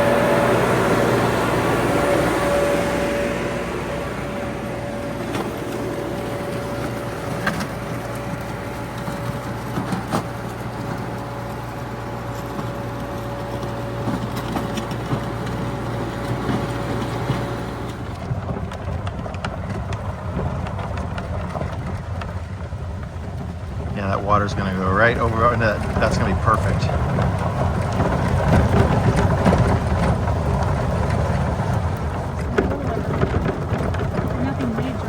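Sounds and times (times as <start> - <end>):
steady whine: 0.0 - 20.9, 23.9 - 35.0
bulldozer diesel engine running: 0.0 - 35.0.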